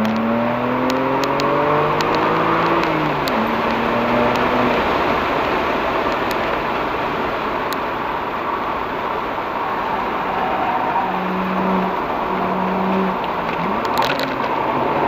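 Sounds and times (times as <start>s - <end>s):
car engine off throttle: 0.0s - 15.0s
tyre and wind noise: 0.0s - 15.0s.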